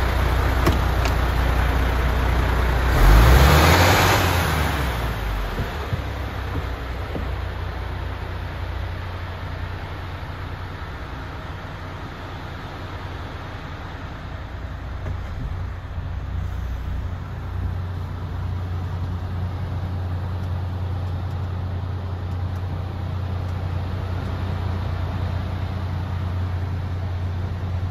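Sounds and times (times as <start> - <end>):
diesel truck engine idling: 0.0 - 27.9.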